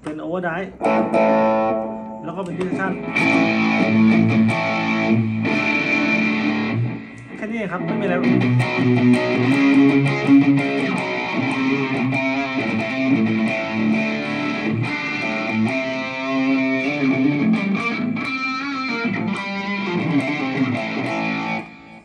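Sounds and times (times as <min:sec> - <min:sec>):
distorted electric guitar notes: 0:00.8 - 0:22.0.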